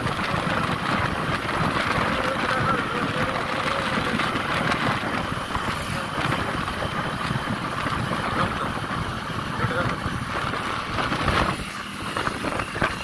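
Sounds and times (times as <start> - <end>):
motorcycle engine and road noise: 0.0 - 13.0
wind buffeting microphone: 0.0 - 13.0.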